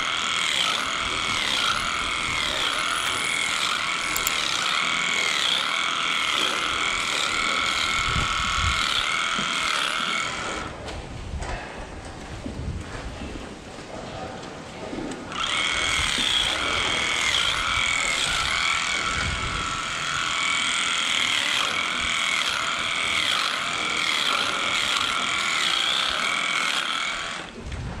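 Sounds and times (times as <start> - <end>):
electric clippers trimming hair: 0.0 - 10.8, 15.3 - 27.5.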